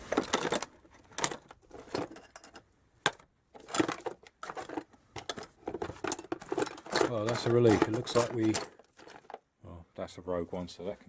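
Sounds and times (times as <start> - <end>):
metal parts clinking and rustling: 0.0 - 9.5.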